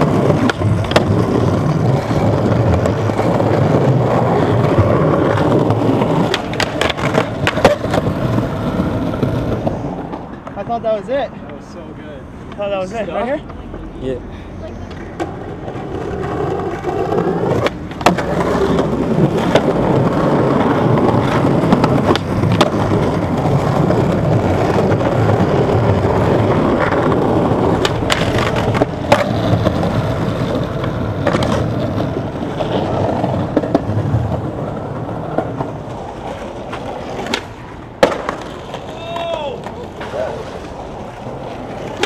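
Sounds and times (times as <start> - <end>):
skateboard clacks: 0.0 - 11.6, 14.8 - 42.0
skateboard wheels rolling on pavement: 0.0 - 42.0.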